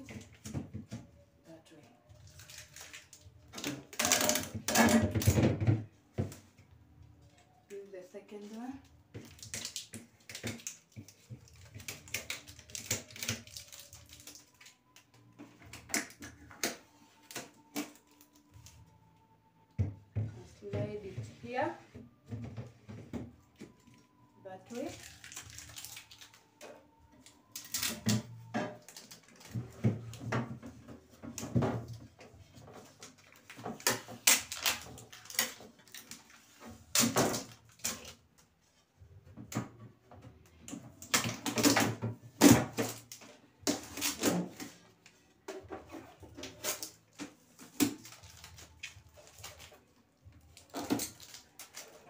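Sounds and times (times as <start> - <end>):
plastic handling noise: 0.0 - 52.0.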